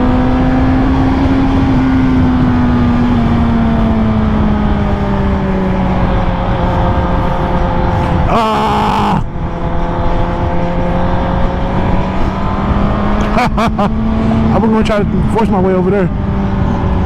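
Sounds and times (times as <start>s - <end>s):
motorcycle engine cruising: 0.0s - 17.0s
wind rush: 0.4s - 17.0s.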